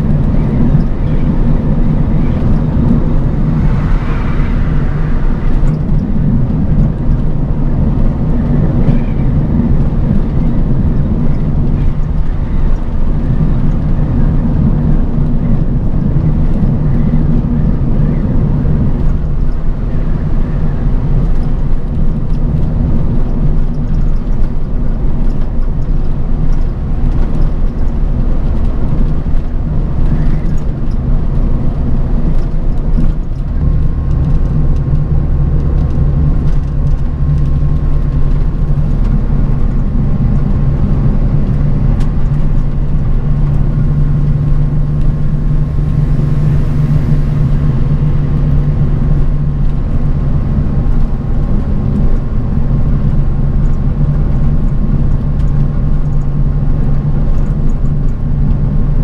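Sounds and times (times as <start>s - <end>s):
bus engine and road drone: 0.0s - 59.0s.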